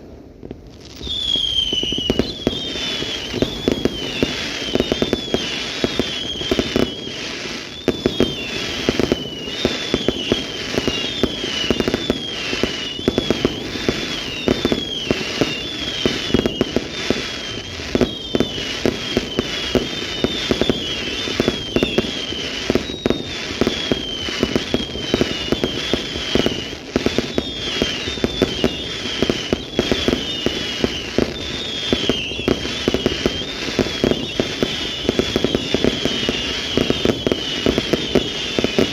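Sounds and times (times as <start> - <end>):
firework bangs and crackling: 0.0 - 38.9
firework whistles: 0.0 - 38.9.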